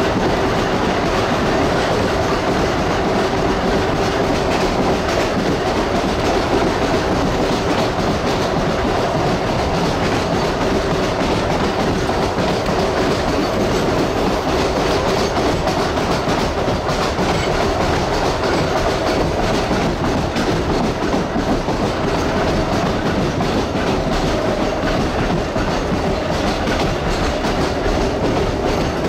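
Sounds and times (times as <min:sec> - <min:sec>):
train wheels running on rails: 0:00.0 - 0:29.0.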